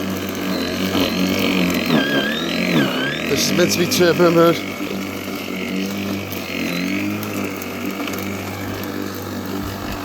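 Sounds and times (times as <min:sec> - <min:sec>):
electric lawnmower running: 0:00.0 - 0:10.0.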